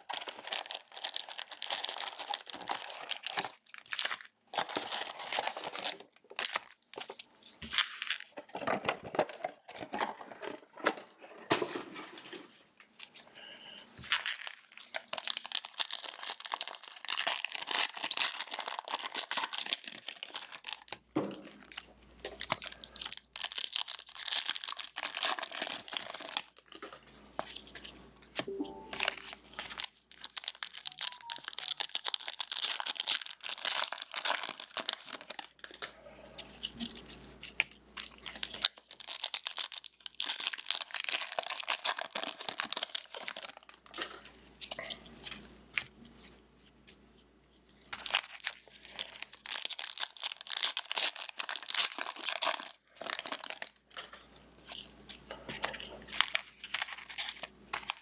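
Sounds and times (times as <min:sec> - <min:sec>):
foil wrappers tearing and crumpling: 0:00.0 - 0:10.0, 0:13.4 - 0:35.8, 0:36.4 - 0:45.9, 0:47.8 - 0:58.0.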